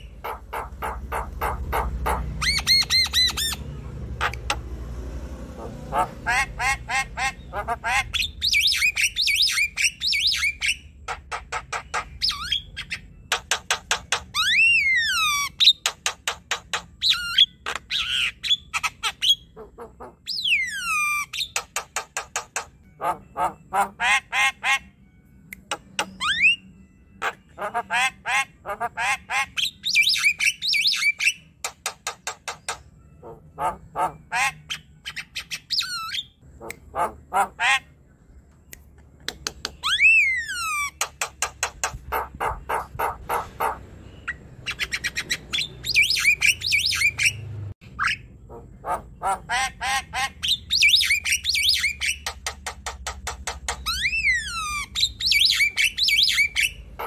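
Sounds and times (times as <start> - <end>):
bird chattering song: 0.0 - 4.7, 5.6 - 24.9, 25.6 - 57.0.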